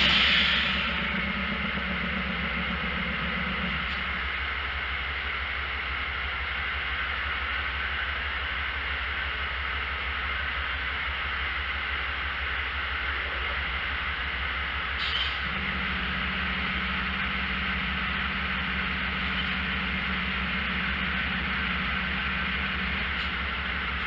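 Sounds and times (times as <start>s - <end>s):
diesel locomotive idling: 0.0s - 24.0s.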